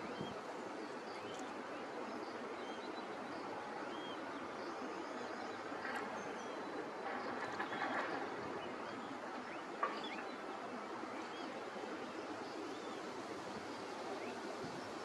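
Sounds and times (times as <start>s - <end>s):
outdoor lakeside ambience hiss: 0.0s - 15.0s.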